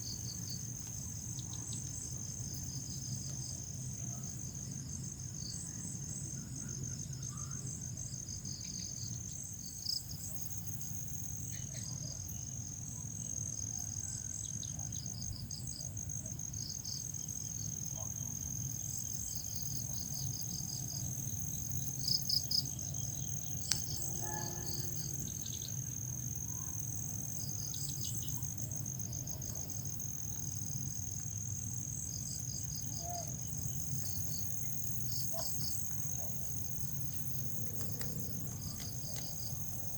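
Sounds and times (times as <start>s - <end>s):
cricket continuous high trill: 0.0s - 39.9s
crickets chirping in pulses: 0.0s - 39.9s.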